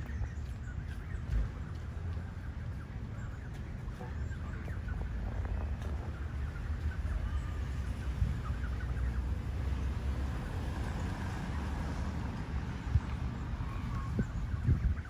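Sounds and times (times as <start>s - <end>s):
geese and goslings calling: 0.0s - 15.0s
steady low rumble: 0.0s - 15.0s.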